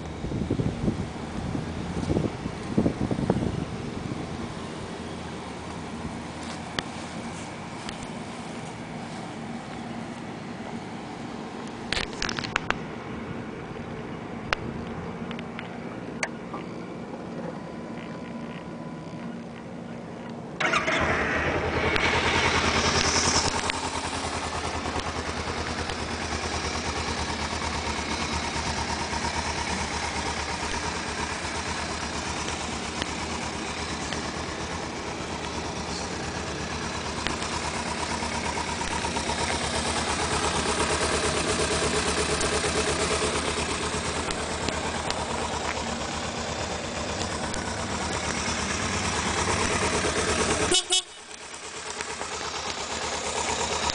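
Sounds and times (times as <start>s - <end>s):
motorcycle engine starting and idling: 0.0s - 53.9s.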